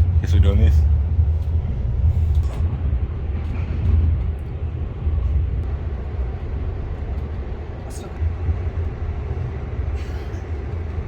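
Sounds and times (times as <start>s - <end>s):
train carriage rumble: 0.0s - 11.0s.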